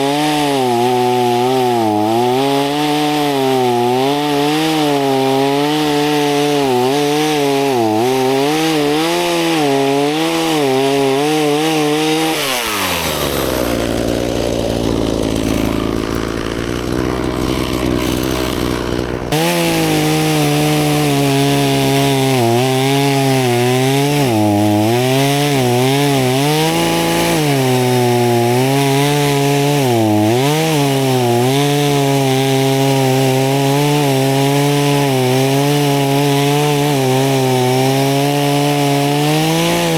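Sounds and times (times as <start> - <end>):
chainsaw cutting branches: 0.0 - 39.9.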